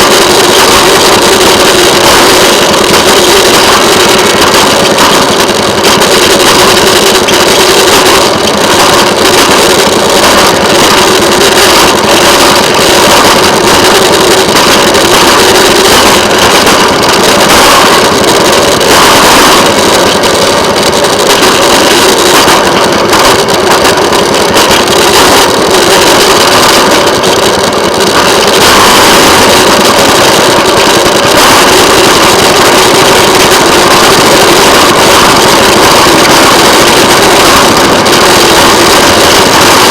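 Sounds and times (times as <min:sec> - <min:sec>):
small engine running loudly: 0:00.0 - 0:39.9.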